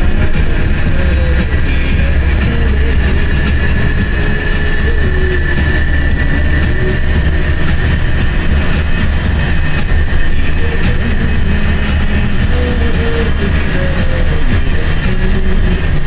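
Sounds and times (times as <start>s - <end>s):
bus engine rumble: 0.0s - 16.0s
thin high whine: 0.0s - 16.0s.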